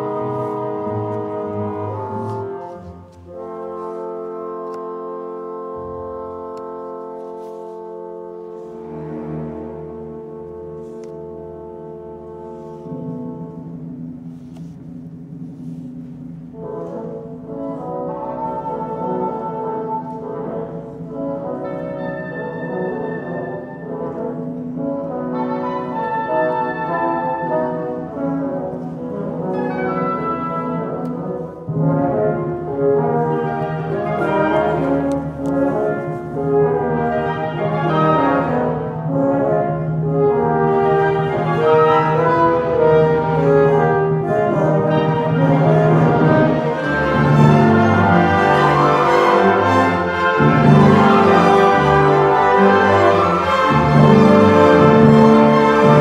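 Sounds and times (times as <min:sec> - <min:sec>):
orchestra playing held chords: 0:08.0 - 0:56.0.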